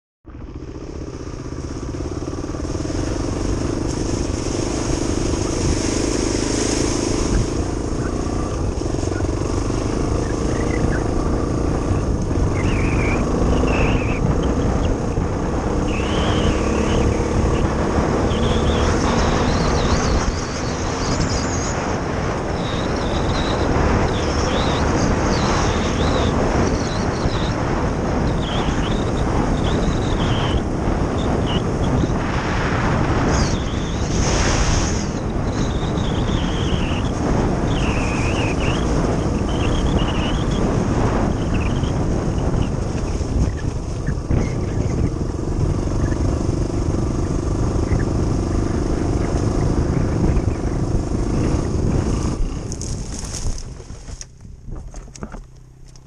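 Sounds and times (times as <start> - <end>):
motorcycle engine running: 0.2 - 56.0
wind rumbling on microphone: 0.2 - 56.0.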